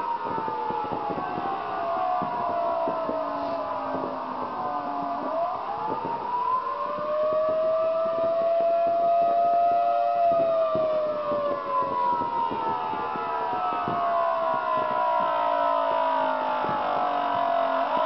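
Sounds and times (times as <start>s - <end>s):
wailing siren: 0.0s - 18.0s.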